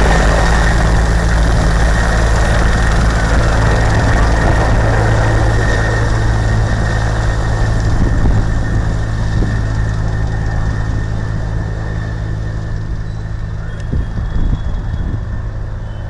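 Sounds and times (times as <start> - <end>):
helicopter engine running: 0.0 - 16.0.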